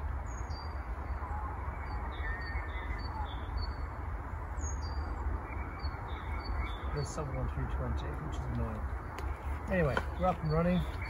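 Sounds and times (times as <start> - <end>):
high bird chirps: 0.3 - 11.0.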